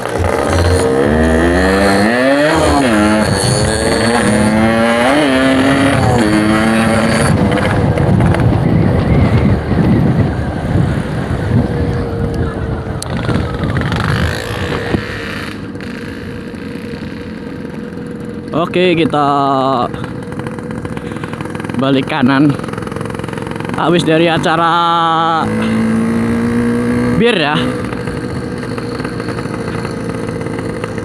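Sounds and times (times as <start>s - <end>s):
motorcycle engine accelerating: 0.0s - 31.0s
wind and road noise: 0.0s - 31.0s.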